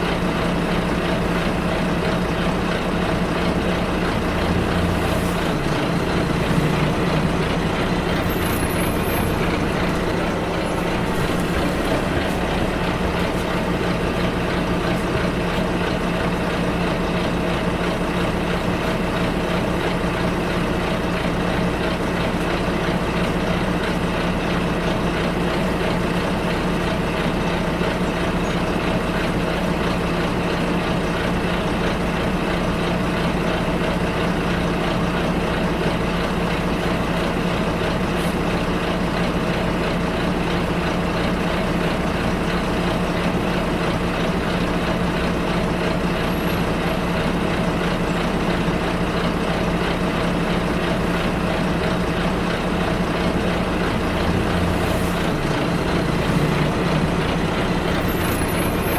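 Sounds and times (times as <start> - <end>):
bus engine humming: 0.0 - 58.9.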